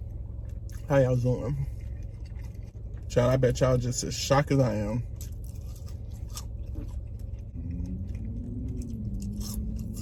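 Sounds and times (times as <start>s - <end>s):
chewing and crunching food: 0.0s - 10.0s
steady low rumble: 0.0s - 10.0s.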